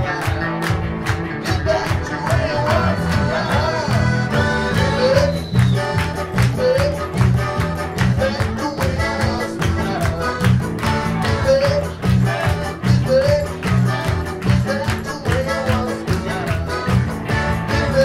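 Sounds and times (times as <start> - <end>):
electric bass guitar: 0.0 - 18.0
man singing into microphone: 0.0 - 18.0.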